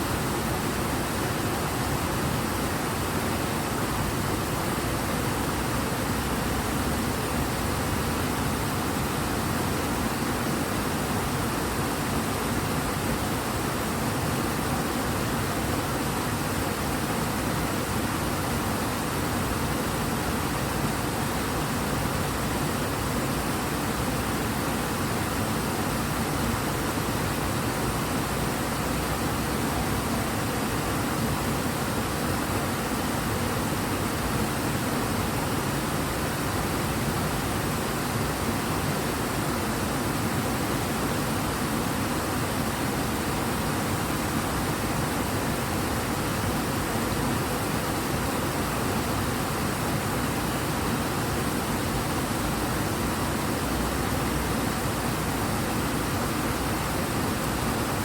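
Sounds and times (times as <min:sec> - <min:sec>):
large river rushing: 0:00.0 - 0:58.0.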